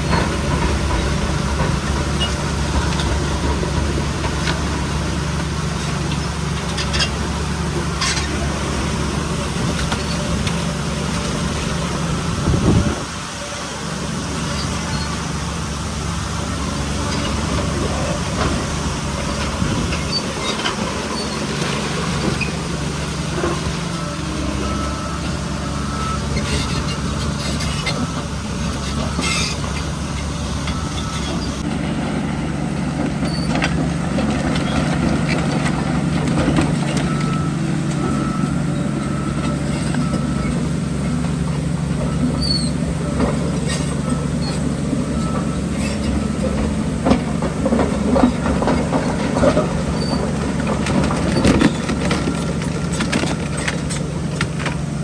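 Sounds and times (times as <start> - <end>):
diesel construction machinery running: 0.0 - 55.0.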